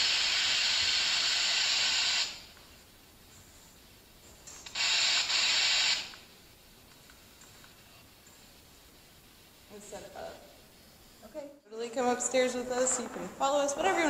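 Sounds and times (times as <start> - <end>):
electronic static hiss: 0.0 - 14.0.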